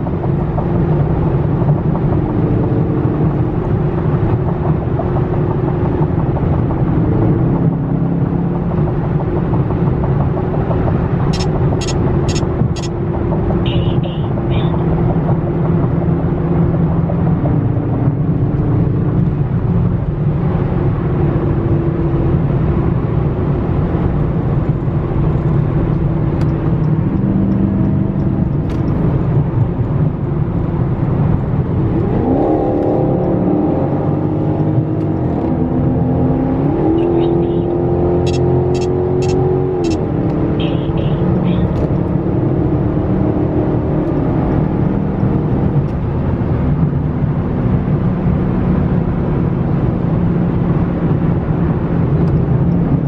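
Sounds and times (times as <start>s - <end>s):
car engine cruising: 0.0s - 53.0s.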